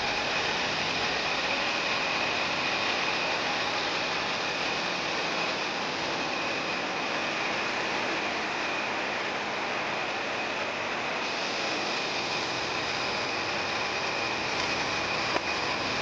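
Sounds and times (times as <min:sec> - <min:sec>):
faint high whine: 0:00.0 - 0:16.0
mechanical running hiss: 0:00.0 - 0:16.0.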